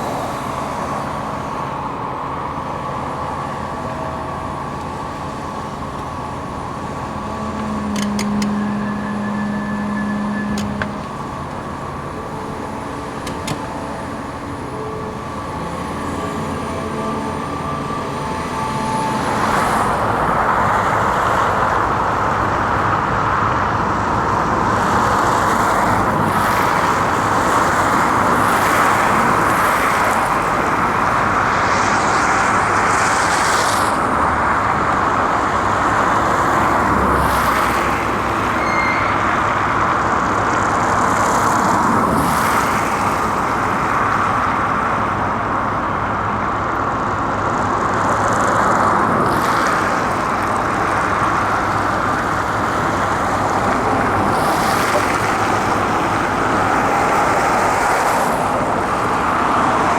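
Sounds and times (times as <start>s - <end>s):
diesel machinery engine running: 0.0s - 59.9s.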